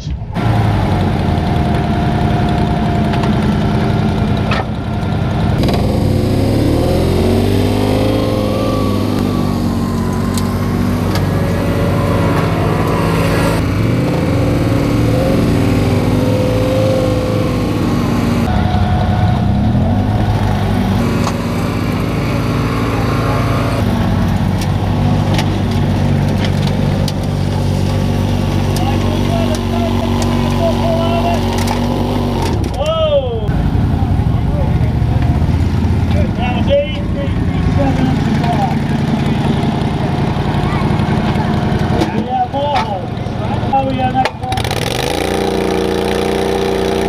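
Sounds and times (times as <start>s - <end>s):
atv engine under heavy load: 0.0s - 47.0s.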